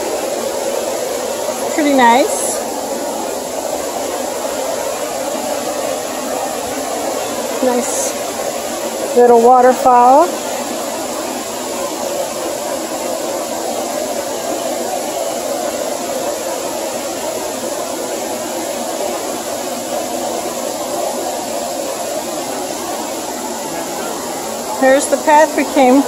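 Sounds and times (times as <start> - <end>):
waterfall rushing over boulders: 0.0 - 26.0.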